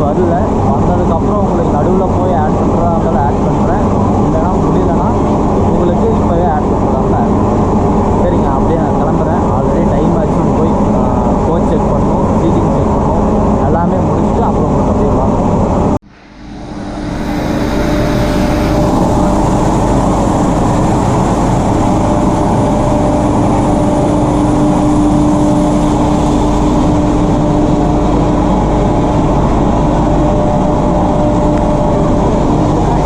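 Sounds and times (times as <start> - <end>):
low hum: 0.0 - 33.0
train rumbling: 0.0 - 33.0.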